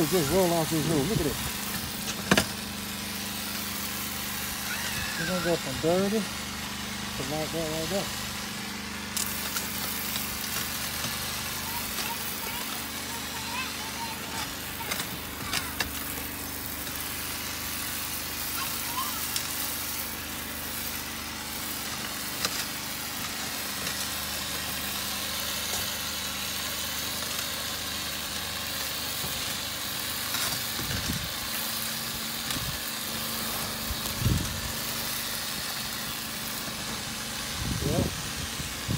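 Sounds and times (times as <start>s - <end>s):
pressure washer engine hum: 0.0s - 38.9s
pressure washer spraying tiles: 0.0s - 38.9s.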